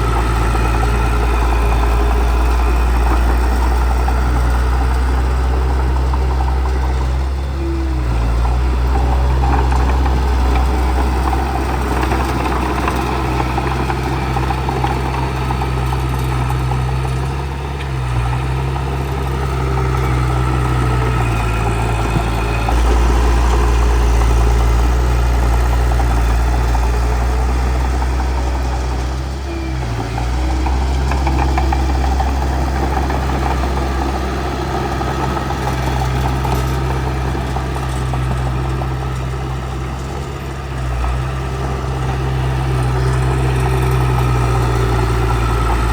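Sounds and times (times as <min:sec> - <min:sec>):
bulldozer diesel engine droning: 0:00.0 - 0:45.9
dense mechanical clatter: 0:00.0 - 0:45.9.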